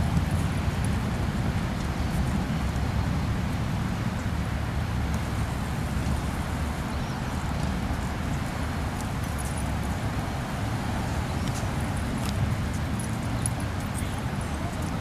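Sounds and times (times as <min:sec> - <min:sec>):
road traffic: 0:00.0 - 0:15.0
wind: 0:00.0 - 0:15.0.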